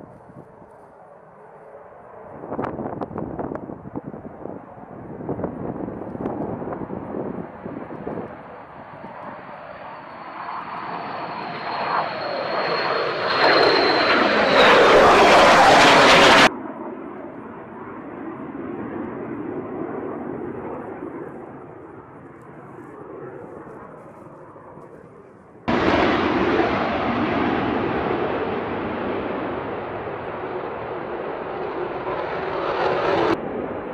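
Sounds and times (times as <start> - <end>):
jet engine rushing roar: 0.0 - 33.9
jet engine whine: 0.0 - 33.9.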